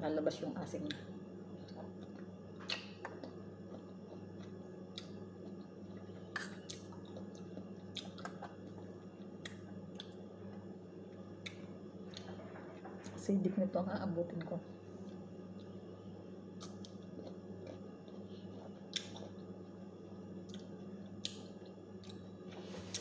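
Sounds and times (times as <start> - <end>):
low hum: 0.0 - 23.0
person chewing crunchy fruit: 1.6 - 13.2, 14.8 - 15.9, 16.5 - 19.8, 20.4 - 23.0.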